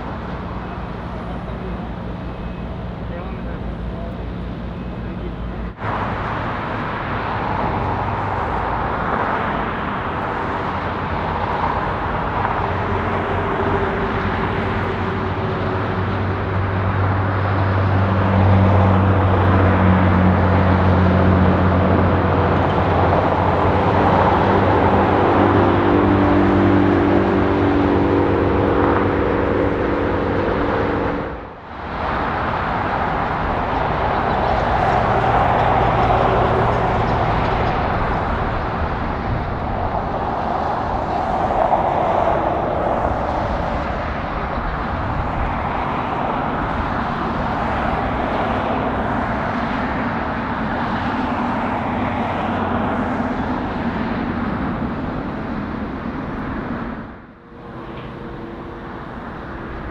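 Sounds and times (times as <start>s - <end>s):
jet engine hum: 0.0s - 59.9s
jet engine roar: 0.0s - 59.9s.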